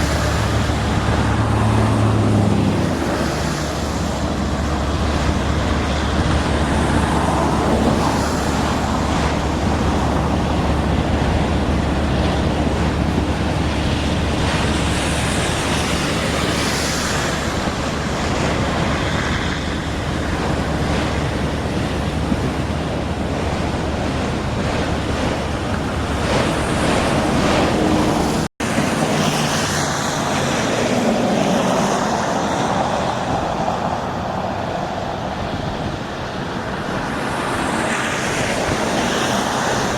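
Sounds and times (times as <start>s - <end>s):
train wheels rumbling: 0.0s - 35.8s
low diesel drone: 0.0s - 39.9s.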